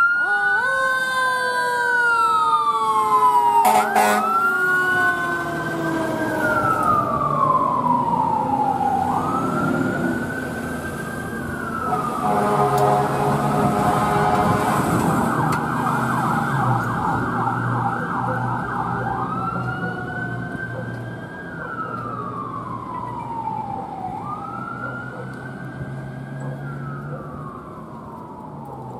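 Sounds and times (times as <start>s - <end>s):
fire engine siren: 0.0s - 28.9s.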